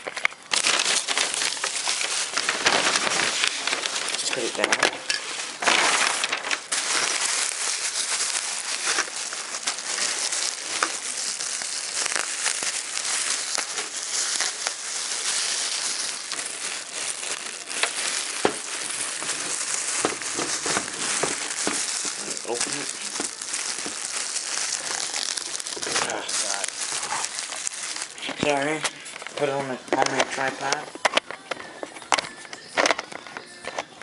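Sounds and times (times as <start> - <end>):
plastic bag crinkling: 0.0 - 33.9.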